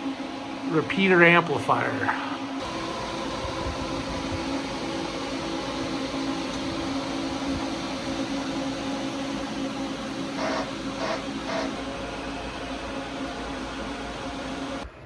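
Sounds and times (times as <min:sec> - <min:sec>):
cooling fans whirring: 0:00.0 - 0:15.0
equipment rack hum: 0:00.0 - 0:15.0.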